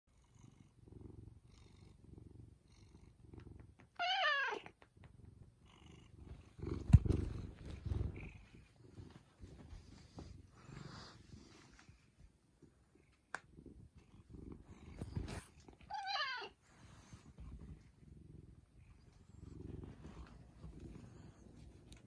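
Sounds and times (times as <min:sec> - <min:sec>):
cat purring: 0:00.1 - 0:04.0, 0:04.6 - 0:22.0.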